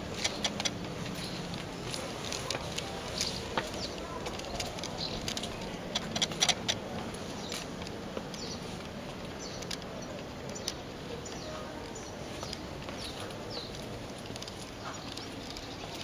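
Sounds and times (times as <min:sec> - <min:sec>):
small birds chirping: 0:00.0 - 0:16.0
sharp clicks: 0:00.1 - 0:01.6, 0:02.3 - 0:16.0.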